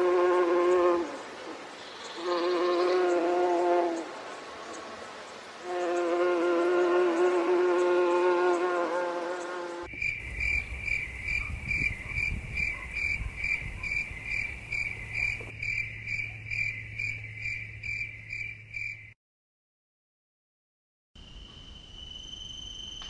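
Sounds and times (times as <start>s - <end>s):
cricket chirping: 0.5s - 19.2s, 21.2s - 23.0s.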